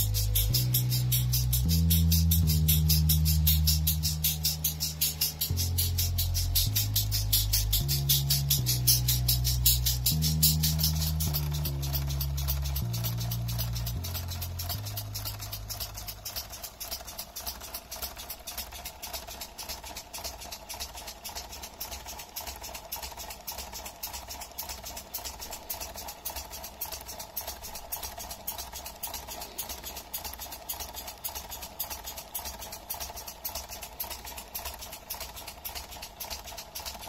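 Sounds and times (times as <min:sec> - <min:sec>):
model locomotive air cylinders puffing: 0:00.0 - 0:37.0
steady hum: 0:00.0 - 0:37.0.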